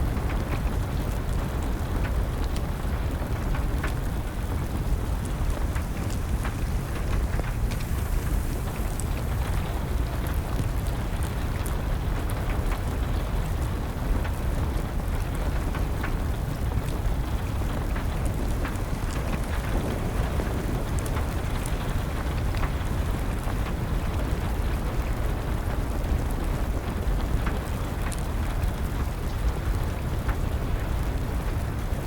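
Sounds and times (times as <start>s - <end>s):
rain falling: 0.0s - 32.0s
wood fire crackling: 0.0s - 32.0s.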